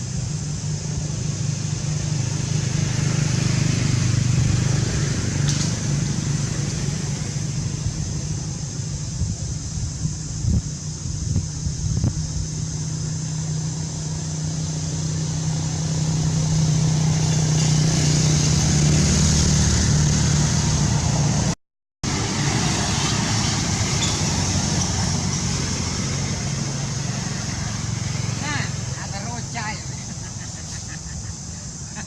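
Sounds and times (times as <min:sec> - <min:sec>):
high hiss: 0:00.0 - 0:32.0
vehicle engine humming: 0:00.0 - 0:32.0.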